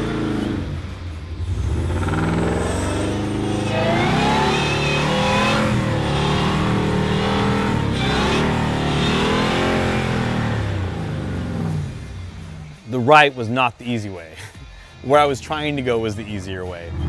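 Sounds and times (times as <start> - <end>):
engine revving: 0.0 - 13.4, 15.3 - 17.0.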